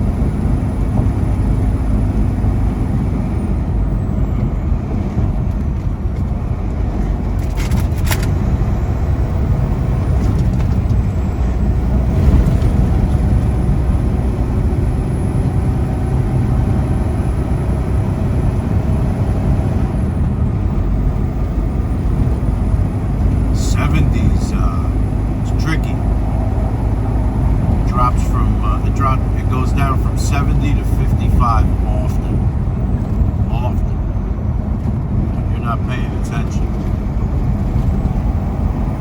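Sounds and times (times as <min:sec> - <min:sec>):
road noise: 0:00.0 - 0:39.0
truck engine drone: 0:00.0 - 0:39.0.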